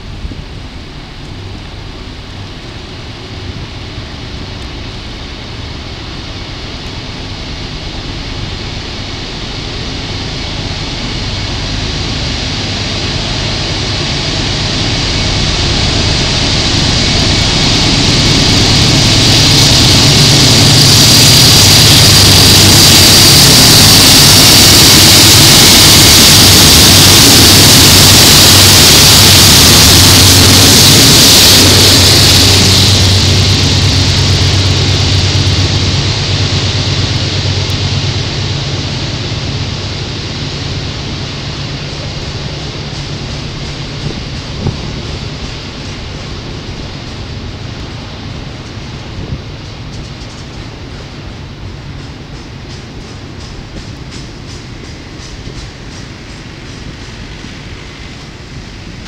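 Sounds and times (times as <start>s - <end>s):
diesel locomotives passing: 0.0s - 59.0s.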